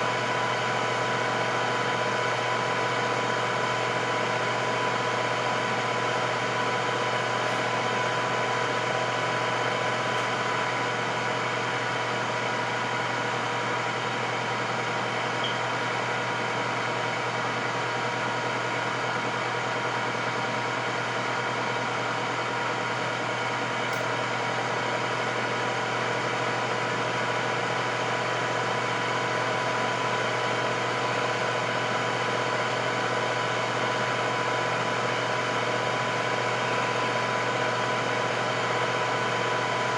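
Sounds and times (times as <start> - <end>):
air fryer whirring: 0.0 - 39.9.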